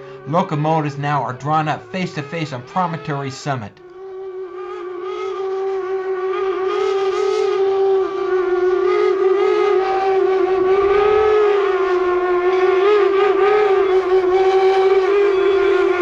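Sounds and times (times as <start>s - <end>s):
steam locomotive whistle blast: 0.0s - 16.0s.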